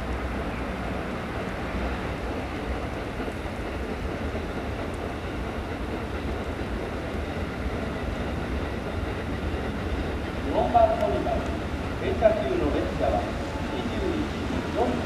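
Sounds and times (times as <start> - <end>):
diesel railcar engine rumble: 0.0 - 15.0.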